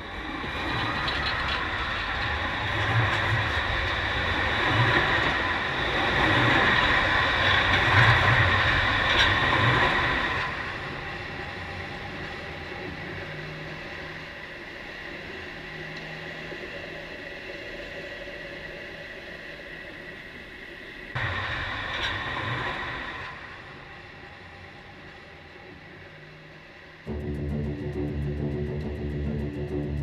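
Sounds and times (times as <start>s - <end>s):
tram wheels rumbling and whining: 0.0s - 30.0s.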